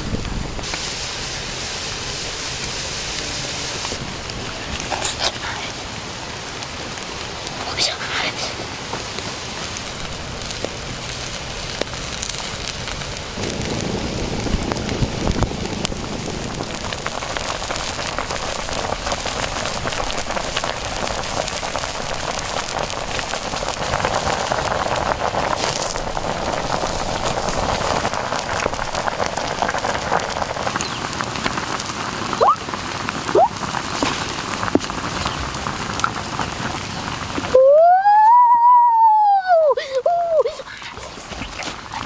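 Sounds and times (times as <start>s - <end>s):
chicken crackling over fire: 0.0s - 42.0s.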